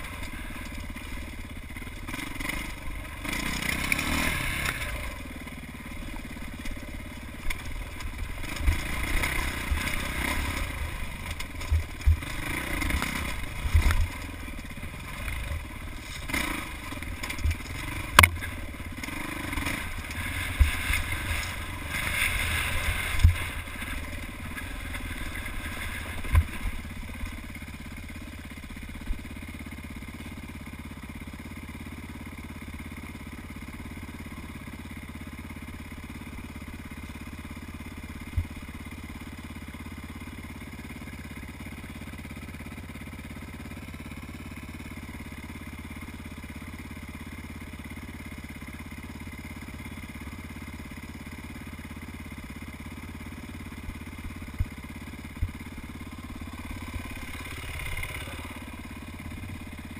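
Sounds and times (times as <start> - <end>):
dirt bike engine: 0.0 - 59.9.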